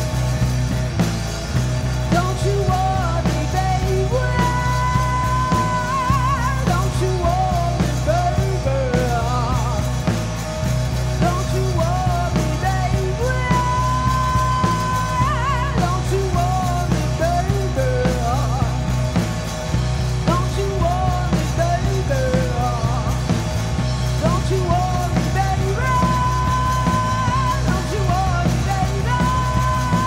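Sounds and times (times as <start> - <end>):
drum kit: 0.0 - 30.0
electric bass: 0.0 - 30.0
electric guitar: 0.0 - 30.0
woman singing: 2.1 - 10.0, 11.2 - 19.0, 20.2 - 23.4, 24.2 - 30.0.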